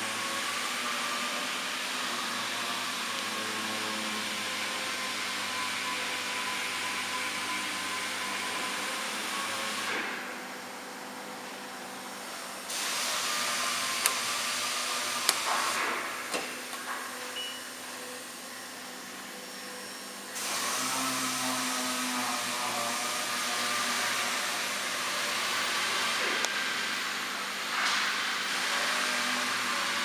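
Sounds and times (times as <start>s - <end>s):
wood router rushing hiss: 0.0s - 10.2s, 12.3s - 16.7s, 17.8s - 30.0s.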